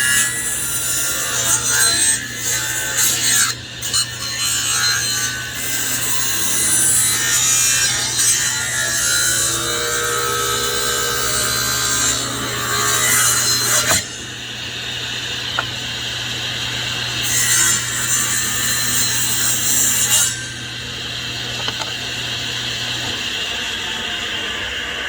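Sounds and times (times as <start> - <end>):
saw blade cutting wood: 0.0 - 25.0
table saw humming: 0.0 - 25.0.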